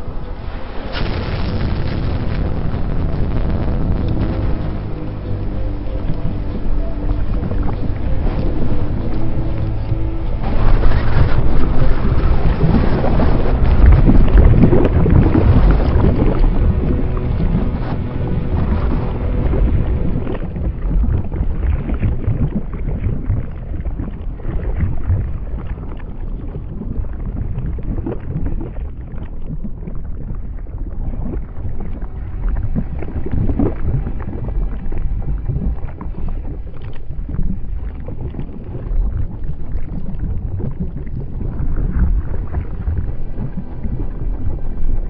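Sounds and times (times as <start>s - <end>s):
loud low rumbling: 0.0s - 45.0s.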